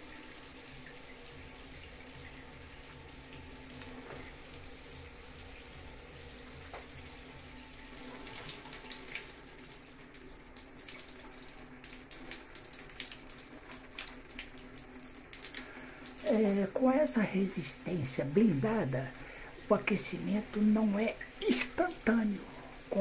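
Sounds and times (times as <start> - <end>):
shower spraying on tiles: 0.0 - 23.0.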